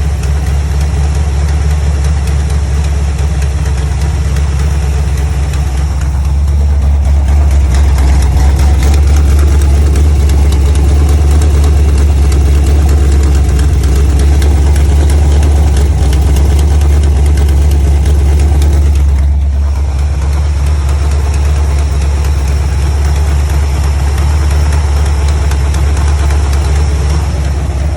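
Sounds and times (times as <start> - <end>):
car engine idling: 0.0 - 27.9
engine ticking knock: 0.0 - 27.9.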